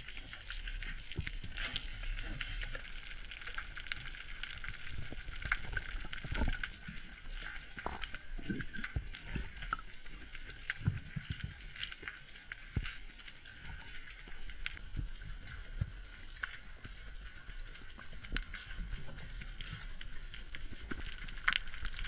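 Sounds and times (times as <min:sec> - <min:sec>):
underwater crackle of small clicks: 0:00.0 - 0:22.0.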